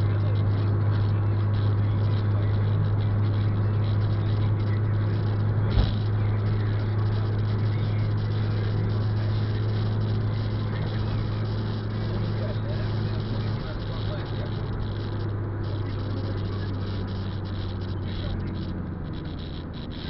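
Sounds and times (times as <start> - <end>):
car road noise from inside: 0.0 - 20.0.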